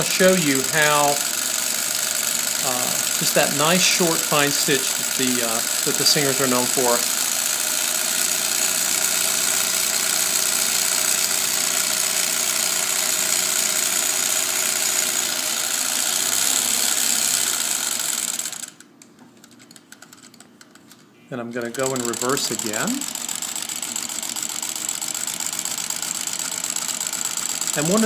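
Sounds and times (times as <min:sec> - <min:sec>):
sewing machine running: 0:00.0 - 0:18.8, 0:21.5 - 0:28.0.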